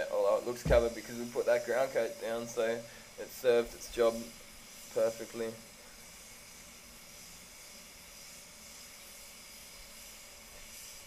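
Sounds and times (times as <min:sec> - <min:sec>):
spray gun hissing: 0:00.1 - 0:11.0
moving air in booth: 0:00.3 - 0:11.0.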